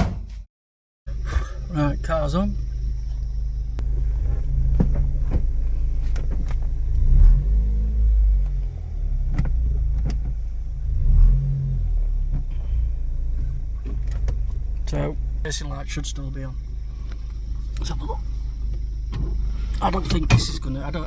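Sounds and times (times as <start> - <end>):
car engine idling: 1.1 - 21.0.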